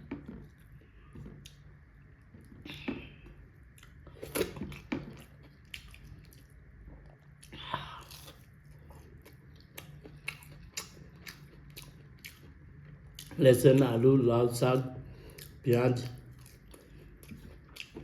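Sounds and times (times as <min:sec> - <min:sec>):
person chewing: 0:00.0 - 0:14.0, 0:15.0 - 0:18.0.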